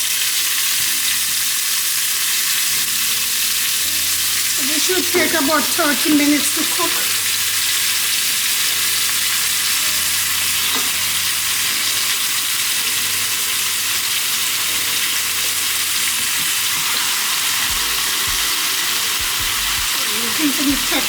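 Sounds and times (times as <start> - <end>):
meat sizzling in oil: 0.0 - 21.0.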